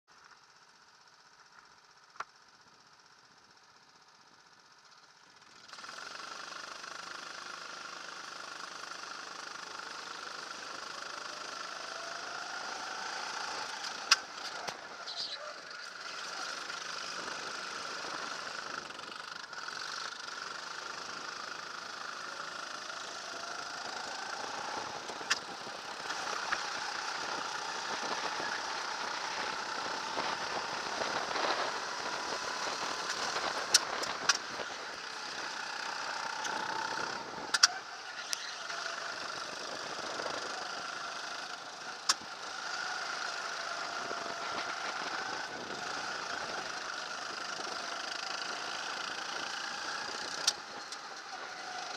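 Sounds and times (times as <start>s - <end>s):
go-kart engine accelerating: 0.4s - 51.9s.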